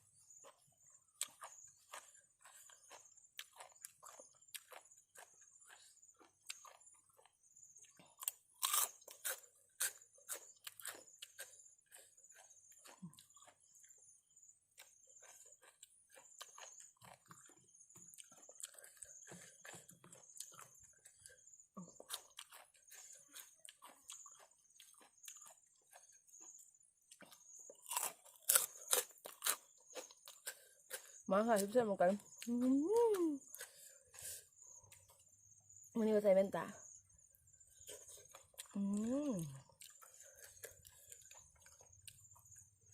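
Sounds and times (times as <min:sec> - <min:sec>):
person chewing crunchy food: 0:00.1 - 0:35.9, 0:36.8 - 0:42.9.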